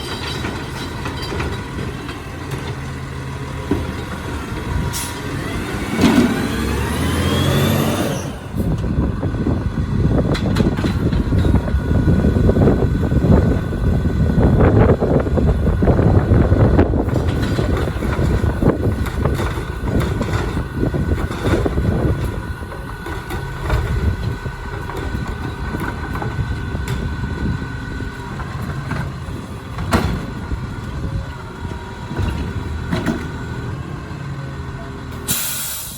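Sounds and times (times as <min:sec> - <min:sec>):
garbage truck engine rumble: 0:00.0 - 0:35.9.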